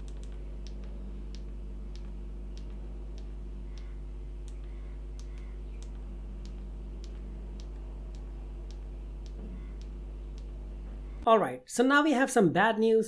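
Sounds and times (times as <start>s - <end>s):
light regular clicks: 0.0s - 10.5s
low hum: 0.0s - 11.2s.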